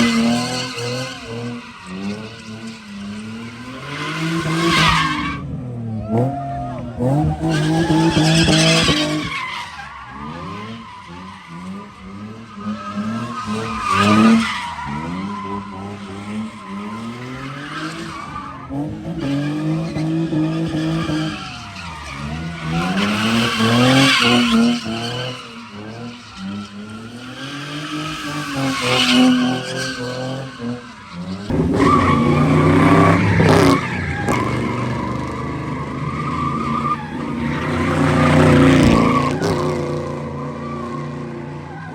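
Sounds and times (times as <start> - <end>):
tyres squealing on pavement: 0.0 - 5.4, 6.0 - 41.9
car engine revving: 0.0 - 41.9.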